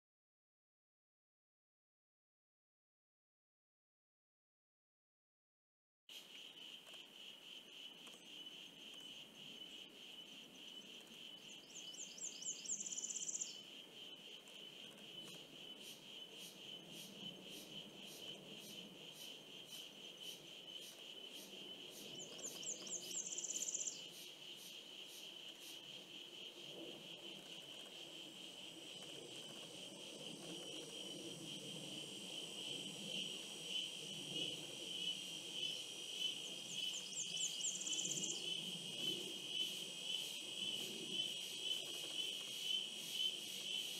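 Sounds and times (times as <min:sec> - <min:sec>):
insects trilling: 0:06.1 - 0:43.9
louder buzzy insect trill: 0:06.1 - 0:43.9.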